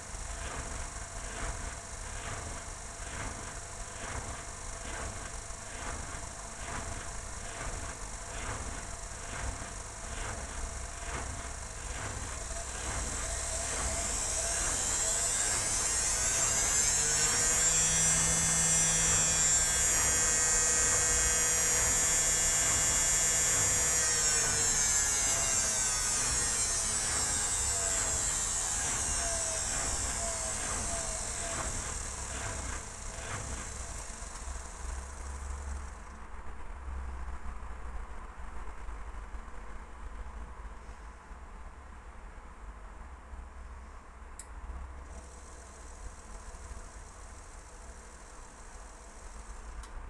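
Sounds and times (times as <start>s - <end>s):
washing machine spin cycle whine: 0.0s - 38.4s, 44.7s - 50.0s.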